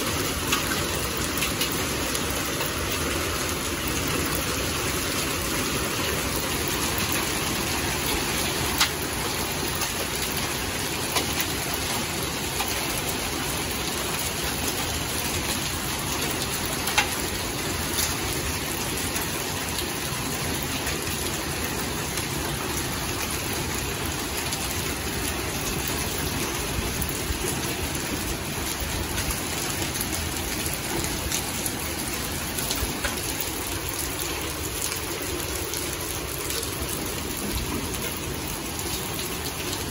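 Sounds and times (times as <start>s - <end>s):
hailstones ticking: 0.0s - 39.9s
heavy rain and hail on pavement: 0.0s - 39.9s.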